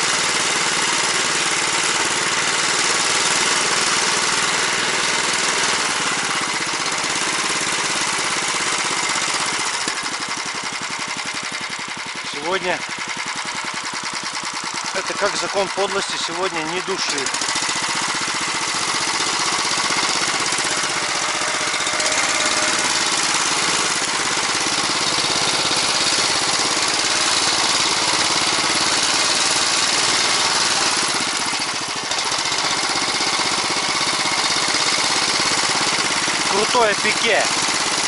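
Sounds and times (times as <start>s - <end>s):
petrol engine running under load: 0.0s - 38.0s.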